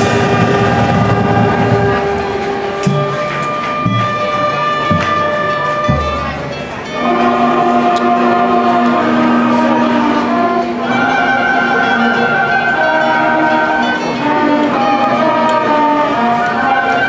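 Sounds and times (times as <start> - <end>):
marching band playing chords: 0.0 - 17.0.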